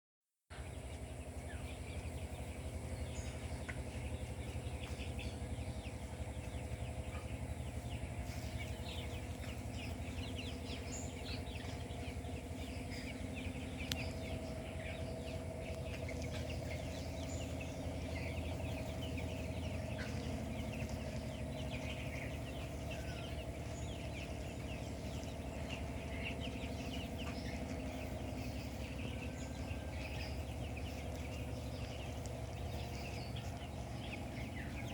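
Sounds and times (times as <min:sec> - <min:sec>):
chicks peeping: 0:00.5 - 0:34.9
steady low hum: 0:00.5 - 0:34.9.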